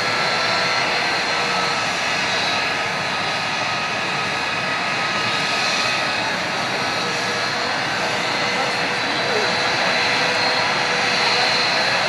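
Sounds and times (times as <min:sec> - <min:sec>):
jet engine roaring with whine: 0:00.0 - 0:12.0.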